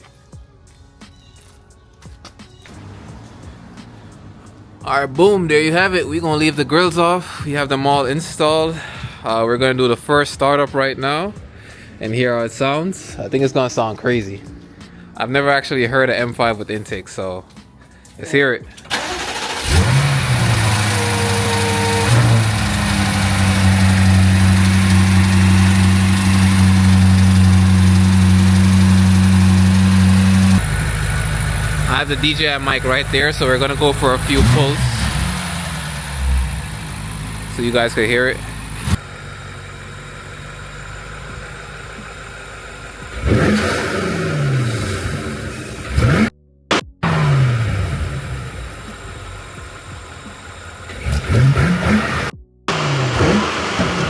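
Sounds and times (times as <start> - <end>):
car engine starting and idling: 2.4 - 54.0.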